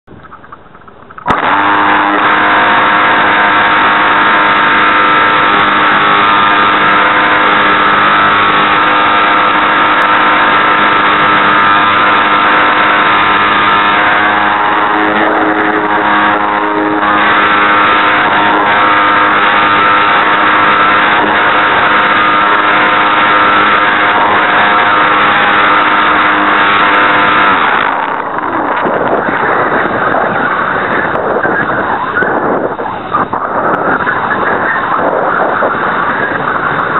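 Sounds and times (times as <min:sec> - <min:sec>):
wind noise: 0:00.1 - 0:36.9
model airplane electric motor: 0:01.2 - 0:36.9.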